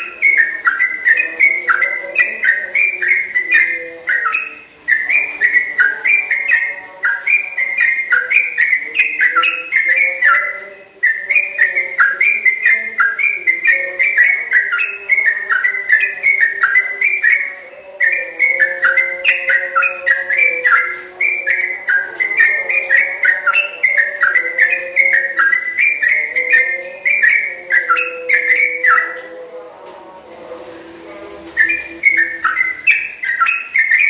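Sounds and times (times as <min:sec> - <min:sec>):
bird singing whistled phrases: 0:00.0 - 0:29.3, 0:31.6 - 0:34.0.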